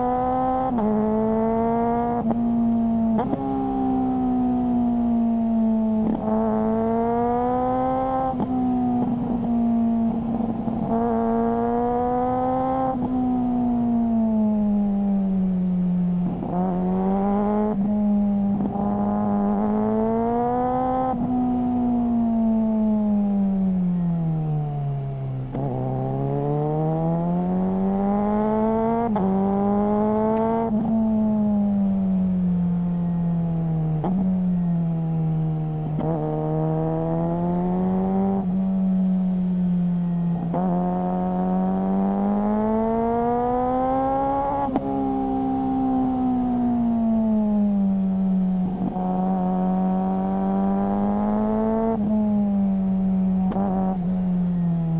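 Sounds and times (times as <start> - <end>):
motorcycle engine revving through gears: 0.0 - 54.9.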